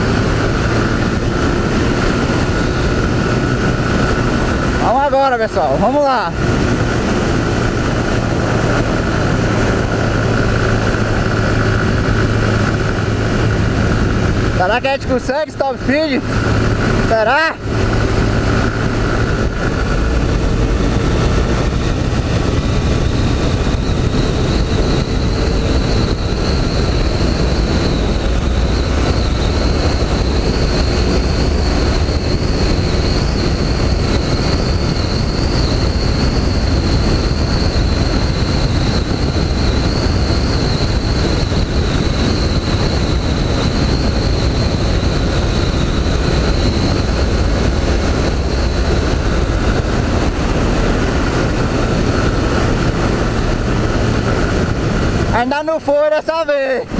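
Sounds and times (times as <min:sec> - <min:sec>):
heavy rushing wind: 0:00.0 - 0:56.9
high-pitched whine: 0:00.0 - 0:56.9
motorcycle engine at full throttle: 0:00.0 - 0:56.9.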